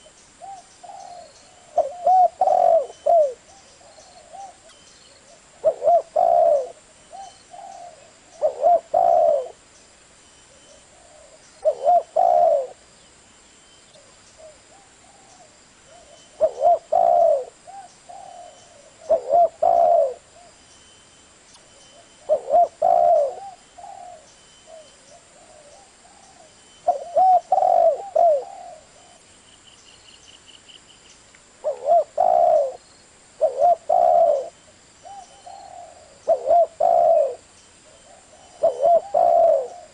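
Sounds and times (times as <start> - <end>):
dove cooing: 0.0 - 9.6, 10.5 - 12.8, 14.0 - 20.6, 21.9 - 29.2, 31.6 - 32.8, 33.4 - 39.9.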